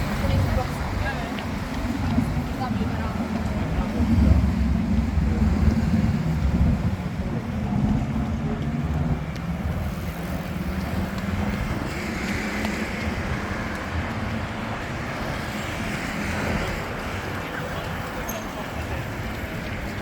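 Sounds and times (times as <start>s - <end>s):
traffic noise: 0.0s - 20.0s
vehicle engine rumbling: 0.0s - 20.0s.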